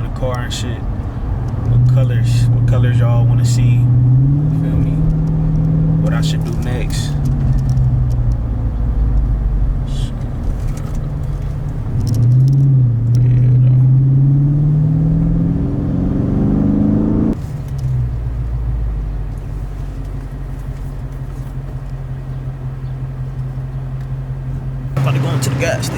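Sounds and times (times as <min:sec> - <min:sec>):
car exhaust drone: 0:00.0 - 0:25.9.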